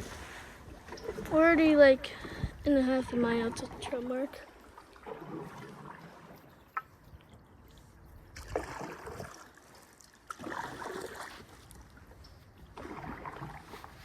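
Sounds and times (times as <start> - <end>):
paddle strokes in water: 0.0 - 14.0.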